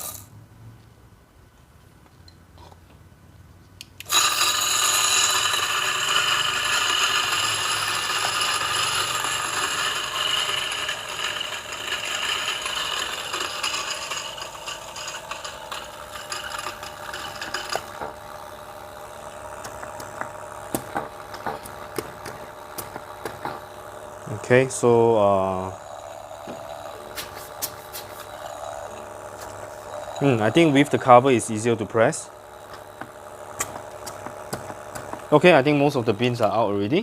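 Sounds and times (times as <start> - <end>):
coffee grinder motor whine: 4.0 - 37.0
crackle of coffee beans: 4.1 - 24.8, 25.4 - 36.4.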